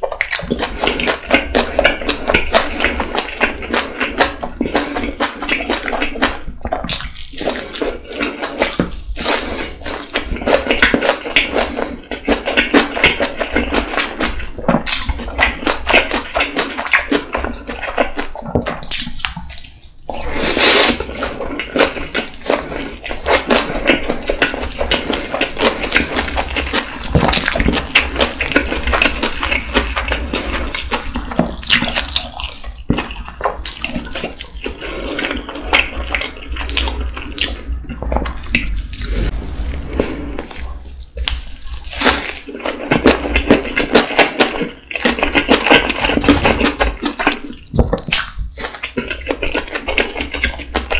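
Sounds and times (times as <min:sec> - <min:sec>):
close-miked chewing: 0:00.0 - 0:50.9
wet smacking mouth sounds: 0:00.0 - 0:50.9.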